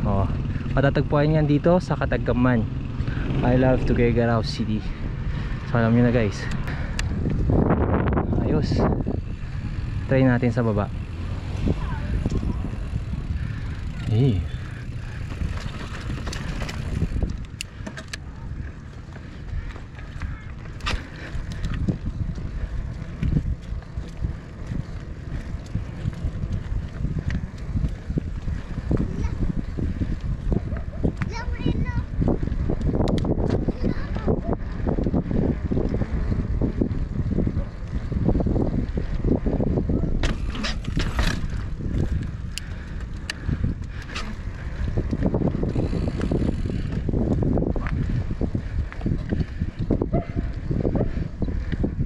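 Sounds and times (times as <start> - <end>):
bike clicks and rattles: 0.0 - 52.0
tyres rumbling on road: 0.0 - 52.0
wind buffeting microphone: 0.0 - 52.0.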